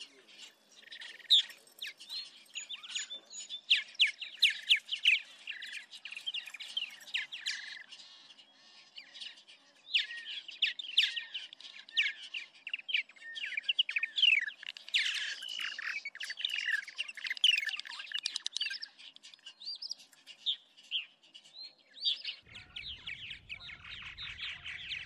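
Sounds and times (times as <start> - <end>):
birds chirping and singing: 0.0 - 25.0.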